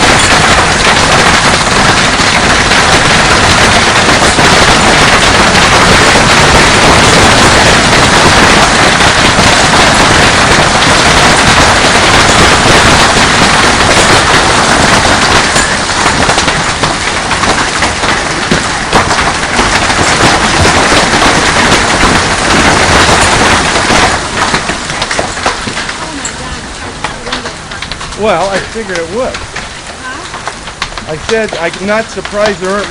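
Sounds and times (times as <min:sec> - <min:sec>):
hailstones pelting down: 0:00.0 - 0:32.9
heavy rain: 0:00.0 - 0:32.9.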